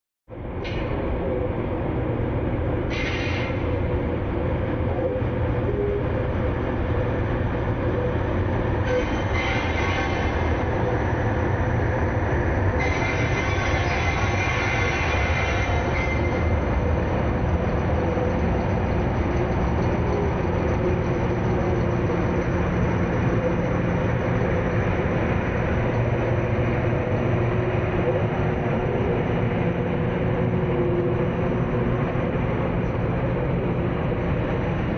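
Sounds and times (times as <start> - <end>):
train rumbling along track: 0.3 - 34.9.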